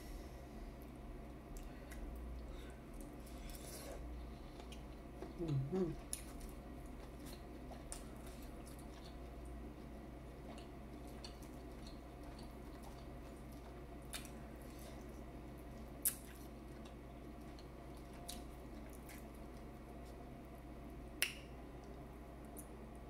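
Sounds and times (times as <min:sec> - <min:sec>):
wet squishing and chewing: 0:01.5 - 0:20.2.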